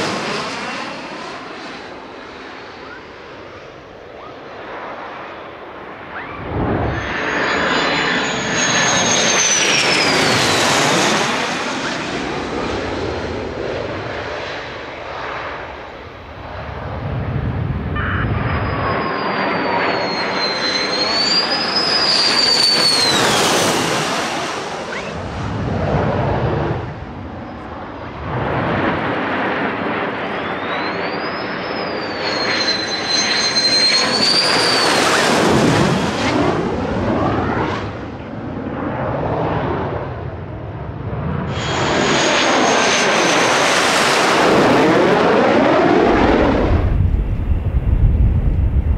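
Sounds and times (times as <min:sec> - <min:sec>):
high jet whine: 0:00.0 - 0:48.9
jet engine rush overhead: 0:00.0 - 0:48.9.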